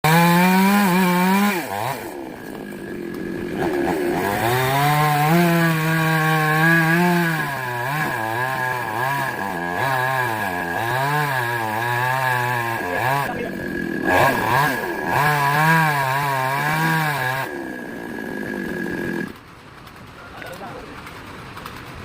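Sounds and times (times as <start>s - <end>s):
chainsaw cutting wood: 0.0s - 20.1s.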